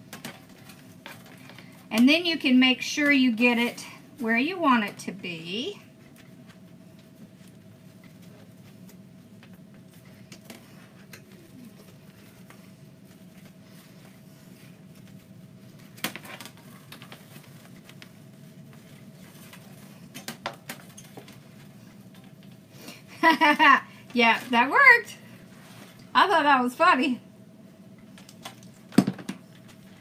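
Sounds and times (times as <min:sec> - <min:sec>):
steady faint hum: 0:00.0 - 0:30.0.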